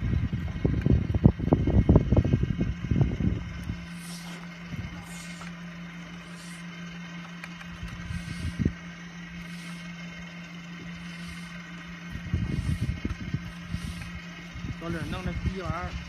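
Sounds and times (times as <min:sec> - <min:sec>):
welding machine humming: 0:00.0 - 0:16.0.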